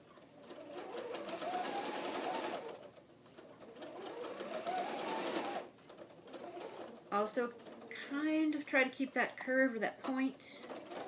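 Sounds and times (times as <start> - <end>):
sewing machine stitching: 0.1 - 8.6, 10.0 - 11.0.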